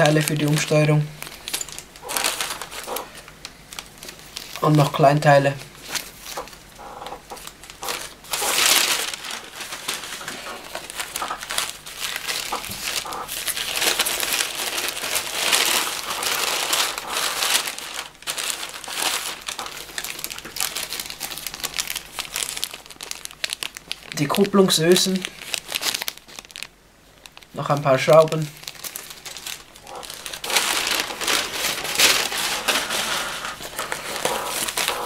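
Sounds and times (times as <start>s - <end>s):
wrapping paper crinkling: 0.0s - 35.0s.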